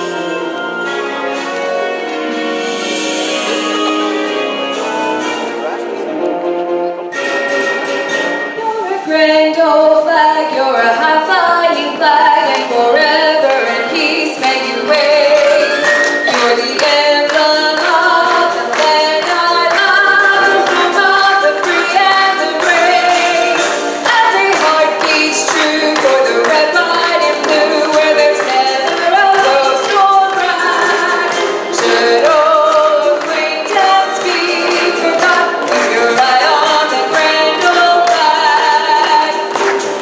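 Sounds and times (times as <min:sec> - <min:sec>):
song with voices and regular beat: 0:00.0 - 0:40.0.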